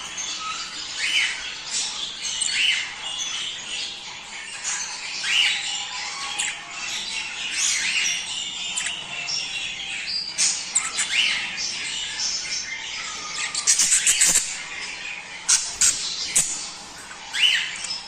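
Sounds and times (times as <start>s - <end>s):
budgerigars chattering and chirping: 0.0s - 18.0s.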